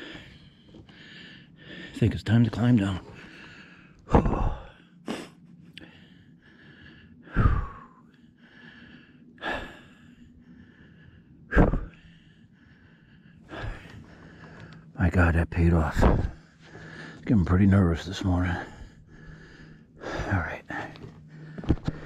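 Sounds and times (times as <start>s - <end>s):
man breathing heavily: 0.0s - 22.0s.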